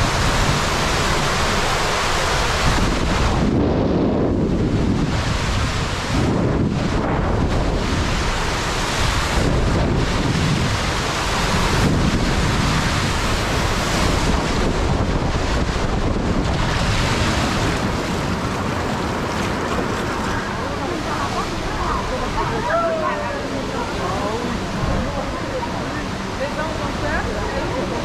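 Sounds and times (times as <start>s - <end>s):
water rushing under a raft: 0.0s - 28.0s
water spraying: 0.0s - 28.0s
wind noise on microphone: 0.0s - 28.0s.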